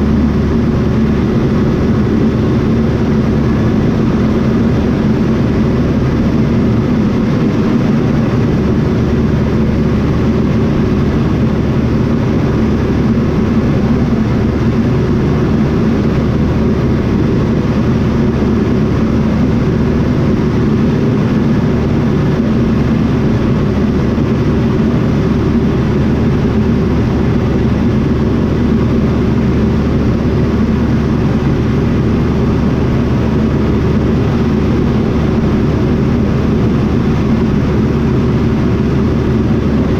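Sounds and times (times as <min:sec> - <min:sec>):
propeller engine running steadily: 0:00.0 - 0:39.9.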